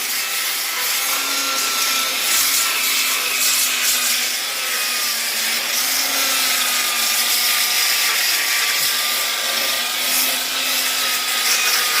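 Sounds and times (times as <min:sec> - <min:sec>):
polisher motor whine: 0:00.0 - 0:12.0
sanding hiss on wood: 0:00.0 - 0:12.0.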